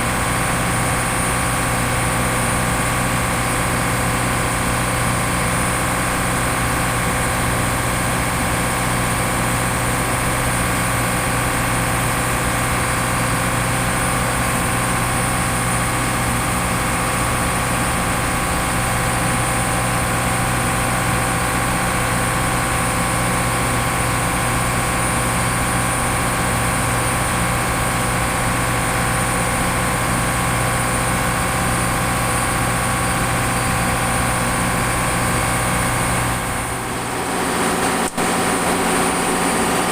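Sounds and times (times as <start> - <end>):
freezer machinery drone: 0.0 - 39.9.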